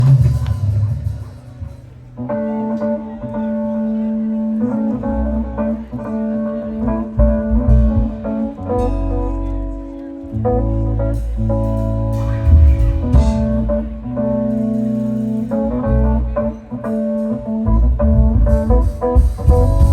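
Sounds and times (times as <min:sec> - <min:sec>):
bass guitar low notes: 0:00.0 - 0:19.9
guitar chords: 0:00.0 - 0:19.9.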